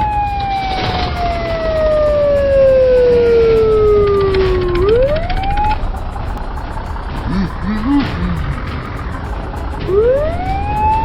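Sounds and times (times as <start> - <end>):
siren wailing: 0.0 - 9.0, 9.8 - 11.0.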